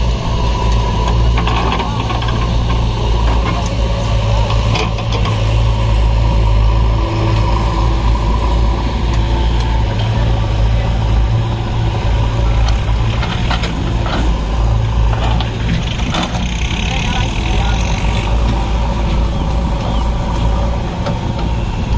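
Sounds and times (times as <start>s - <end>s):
diesel engine droning: 0.0s - 21.9s.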